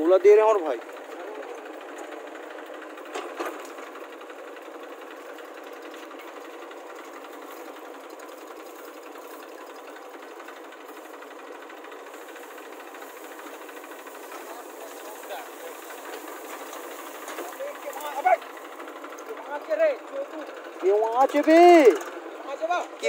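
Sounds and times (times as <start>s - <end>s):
diesel engine clattering: 0.0s - 23.0s
engine knock: 0.0s - 23.0s.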